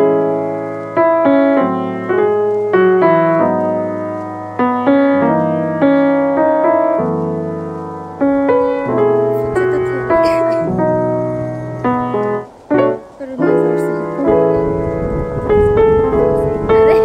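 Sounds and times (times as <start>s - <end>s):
solo piano piece: 0.0s - 17.0s.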